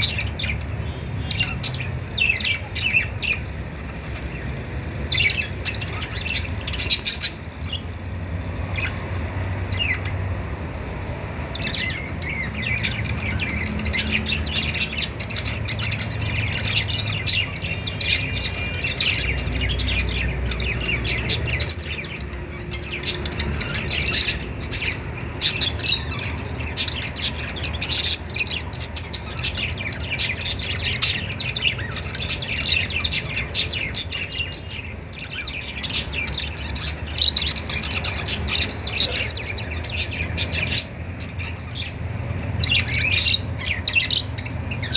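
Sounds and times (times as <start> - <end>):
budgerigars chirping: 0.0 - 44.9.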